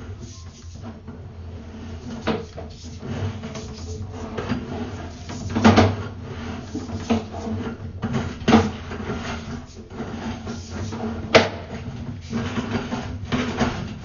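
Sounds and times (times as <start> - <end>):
cable rattling and scraping in pipe: 0.0 - 14.0
steady low hum: 0.0 - 14.0.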